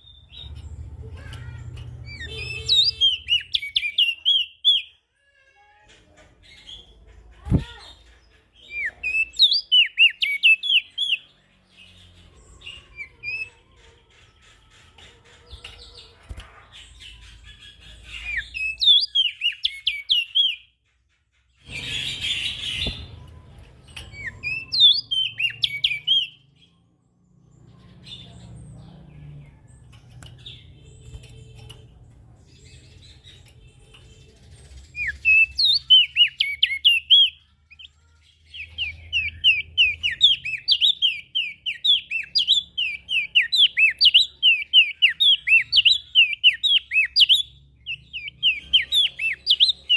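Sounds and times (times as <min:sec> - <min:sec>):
bird high sweeping chirps: 0:00.0 - 0:05.0, 0:06.6 - 0:20.8, 0:21.6 - 0:26.8, 0:29.4 - 0:49.9.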